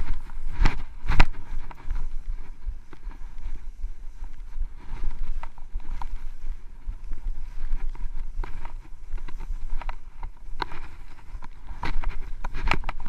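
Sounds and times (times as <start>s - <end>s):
skis running through snow: 0.0s - 13.0s
wind rumble: 0.0s - 13.0s.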